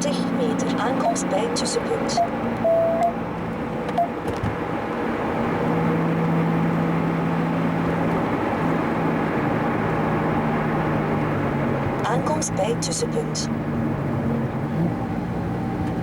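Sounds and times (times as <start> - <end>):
car engine running: 0.0 - 16.0
road and tyre noise: 0.0 - 16.0.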